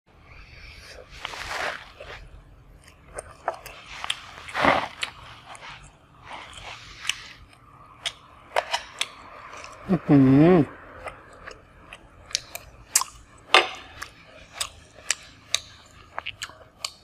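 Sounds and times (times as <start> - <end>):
crunchy chewing: 0.7 - 10.1, 10.7 - 17.0.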